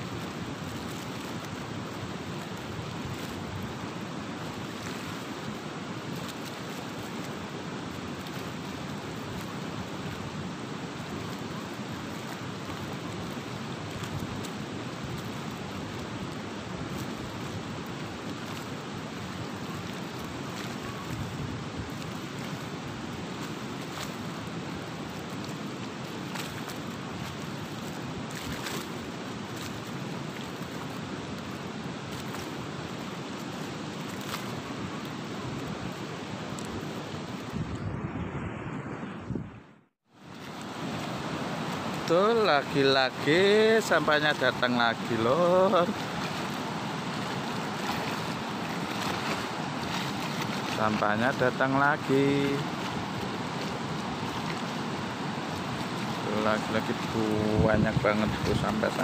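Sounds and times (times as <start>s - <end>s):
fast-flowing river rushing: 0.0s - 39.3s, 40.1s - 59.0s
wind on microphone: 7.9s - 59.0s.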